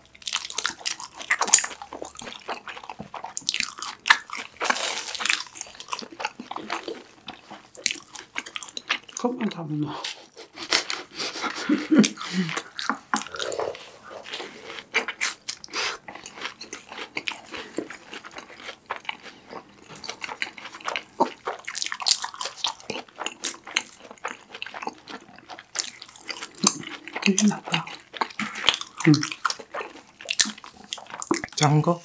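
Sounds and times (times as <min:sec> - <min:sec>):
crunchy chewing: 0:00.0 - 0:31.6.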